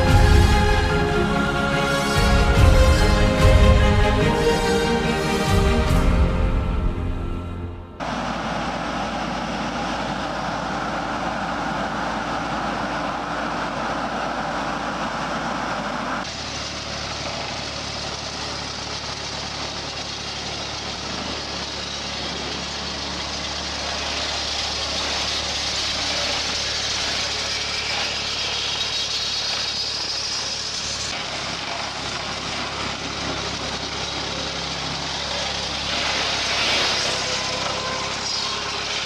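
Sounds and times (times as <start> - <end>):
heavy machinery engine running: 0.0 - 39.0
machine running: 0.0 - 39.0.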